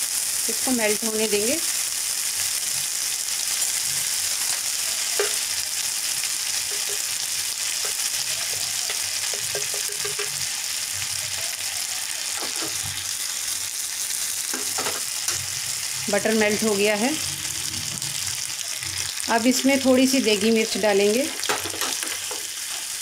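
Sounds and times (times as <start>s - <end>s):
butter sizzling in a pan: 0.0s - 23.0s.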